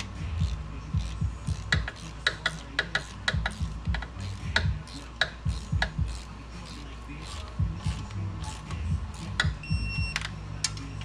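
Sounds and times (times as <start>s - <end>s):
socket wrench clicking: 0.0s - 10.9s
low steady hum: 0.0s - 11.0s.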